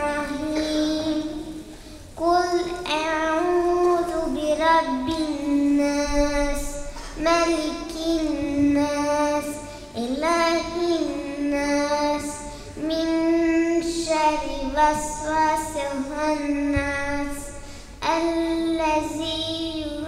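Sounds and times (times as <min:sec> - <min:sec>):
girl reciting in melodic chant: 0:00.0 - 0:20.0.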